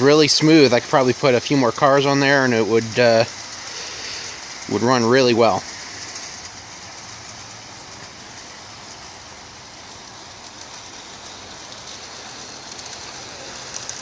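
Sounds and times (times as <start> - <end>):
model train motor whirring: 0.0 - 14.0
wheels rolling on rails: 0.0 - 14.0.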